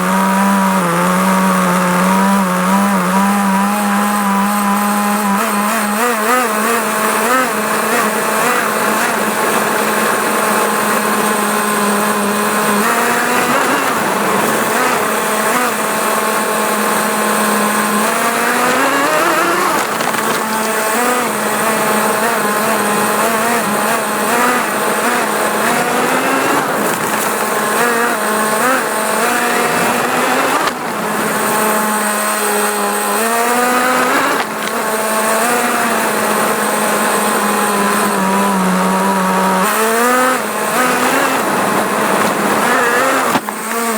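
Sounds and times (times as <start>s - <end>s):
toy car motor whining: 0.0s - 43.9s.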